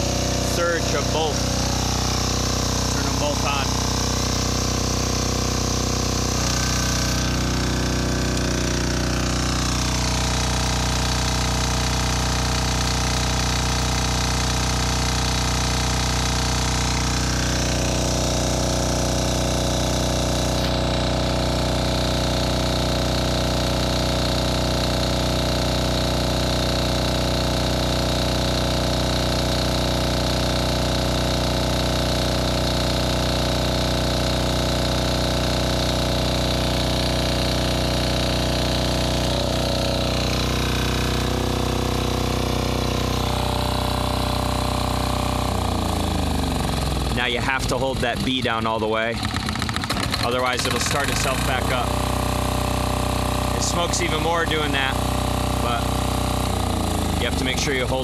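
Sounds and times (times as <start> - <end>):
diesel engine driving generator: 0.0 - 58.0.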